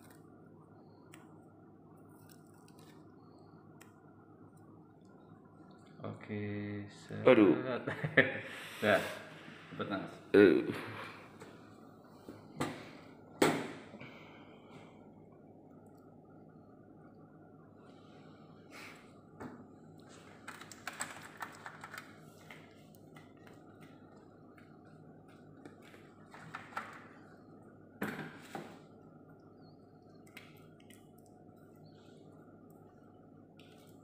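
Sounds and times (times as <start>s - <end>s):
background hum: 0.0s - 34.0s.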